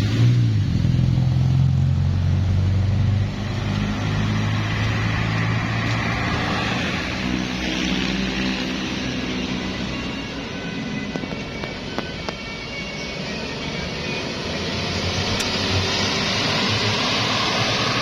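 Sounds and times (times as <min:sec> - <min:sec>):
heavy vehicle engine passing: 0:00.0 - 0:10.5, 0:13.1 - 0:18.0
road traffic: 0:00.0 - 0:18.0.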